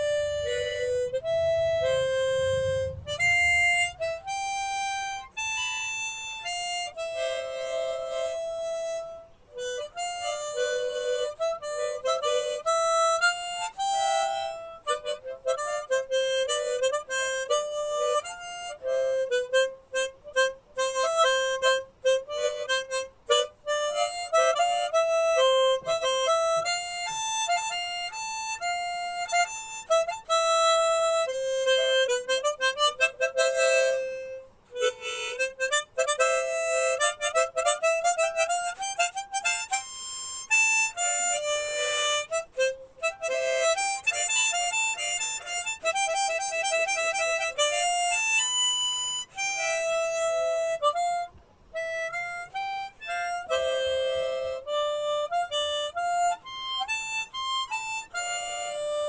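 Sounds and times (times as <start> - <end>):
solo melody in quick runs: 0.0 - 51.2.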